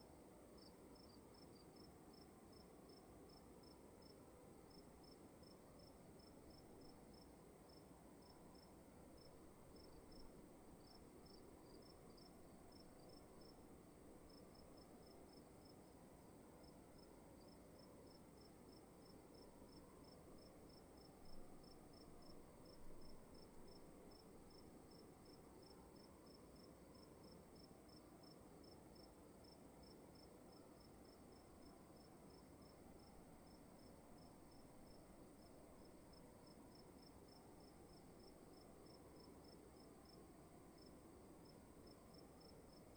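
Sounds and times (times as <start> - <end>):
crickets chirping faintly: 0.0 - 42.9
soft hiss of room tone: 0.0 - 42.9.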